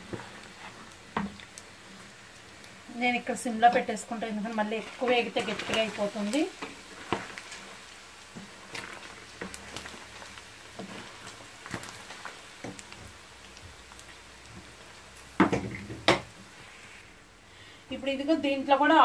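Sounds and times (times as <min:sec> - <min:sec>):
wooden spoon scraping a pan: 0:00.0 - 0:02.0, 0:03.2 - 0:17.2
food sizzling in oil: 0:00.0 - 0:19.0.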